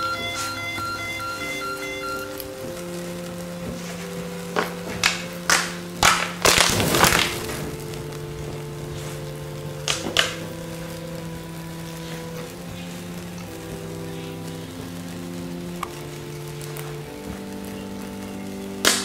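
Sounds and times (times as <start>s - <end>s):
background music: 0.0s - 19.0s
burning plastic crackling and popping: 0.0s - 19.0s.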